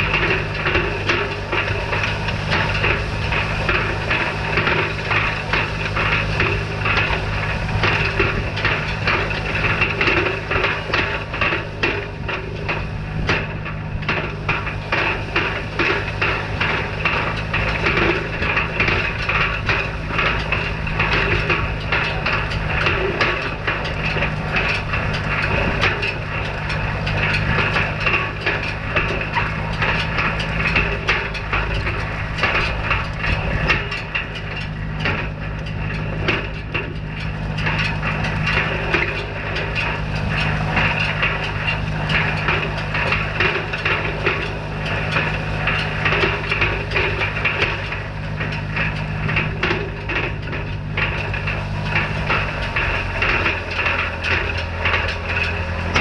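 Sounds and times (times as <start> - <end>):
hay rake clattering: 0.0 - 56.0
tractor engine running: 0.0 - 56.0.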